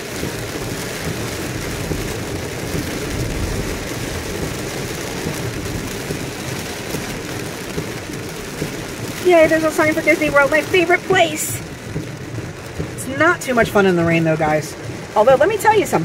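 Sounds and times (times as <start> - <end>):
rain on car body: 0.0 - 16.0
tyres on wet road: 0.0 - 16.0.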